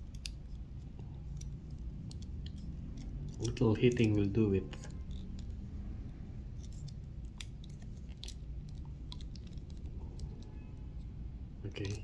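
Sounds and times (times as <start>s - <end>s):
plastic toy clicking and rustling: 0.0s - 11.1s
low steady hum: 0.0s - 12.0s.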